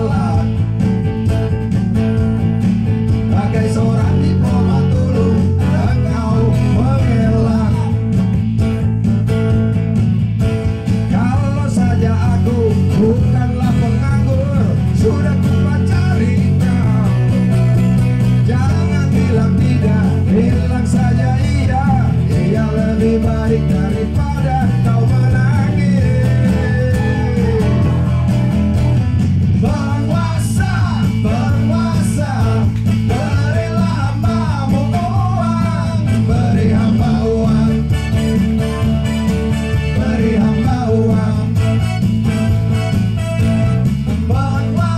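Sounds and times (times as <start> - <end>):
man singing into microphone: 0.0 - 0.8, 3.2 - 8.2, 11.0 - 28.2, 29.5 - 42.0, 44.0 - 44.9
acoustic guitar: 0.0 - 44.9
keyboard: 0.0 - 44.9.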